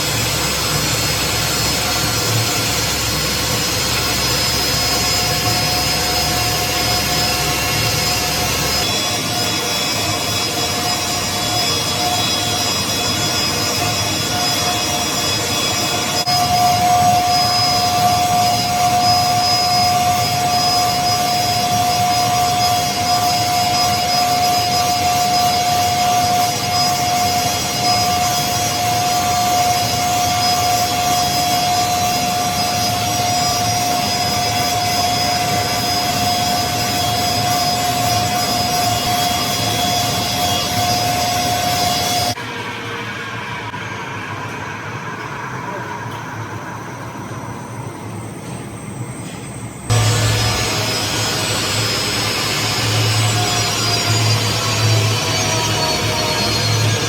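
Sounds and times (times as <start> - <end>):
grinding mill blower rushing: 0.0 - 43.4, 49.9 - 57.0
steady whine: 0.0 - 57.0.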